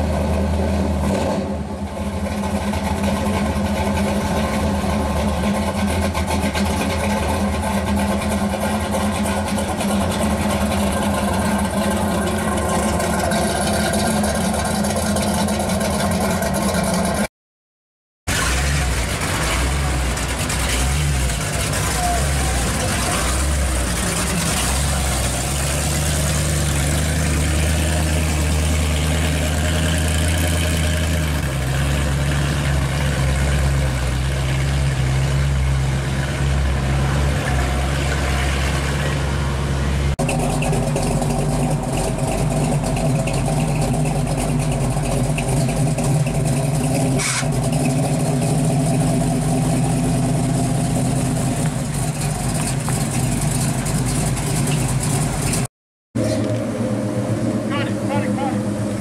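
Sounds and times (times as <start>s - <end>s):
car engine idling: 0.0s - 17.3s, 18.3s - 59.0s
car engine rolling past: 0.0s - 17.3s, 18.3s - 59.0s.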